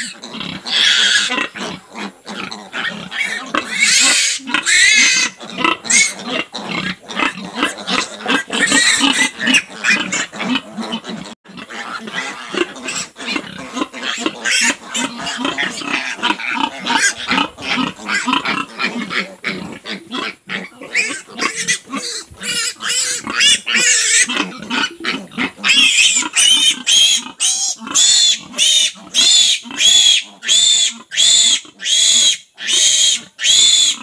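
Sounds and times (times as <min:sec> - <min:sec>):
piglets squealing: 0:00.0 - 0:34.0.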